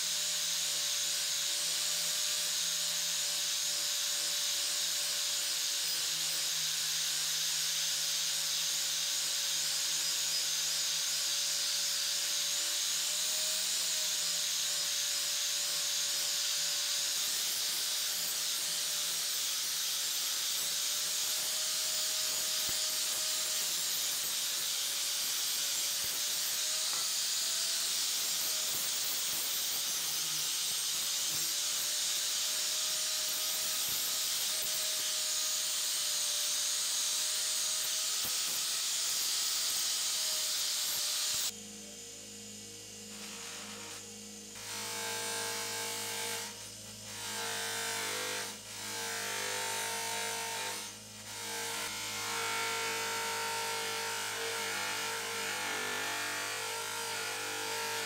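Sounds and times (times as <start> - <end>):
angle grinder motor whine: 0.1 - 58.0.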